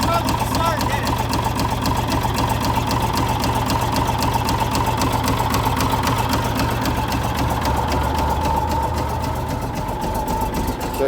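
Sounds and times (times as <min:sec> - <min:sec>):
diesel engine idling with knock: 0:00.0 - 0:11.0.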